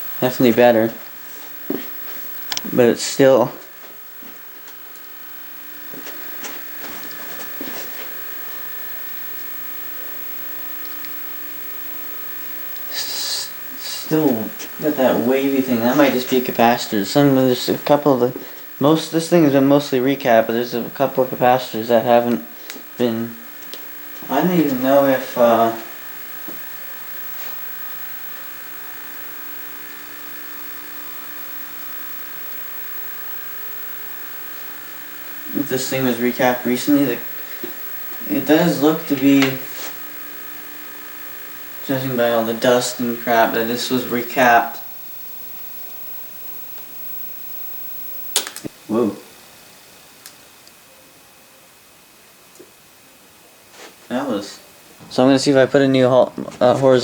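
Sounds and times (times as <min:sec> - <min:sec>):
television electrical buzz: 0:00.0 - 0:57.0.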